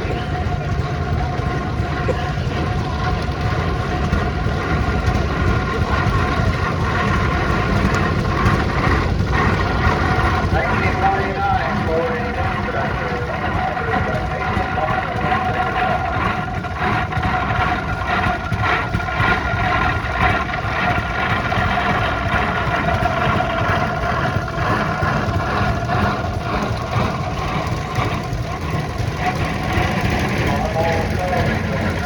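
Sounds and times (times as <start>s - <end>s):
tractor engines running: 0.0s - 32.0s.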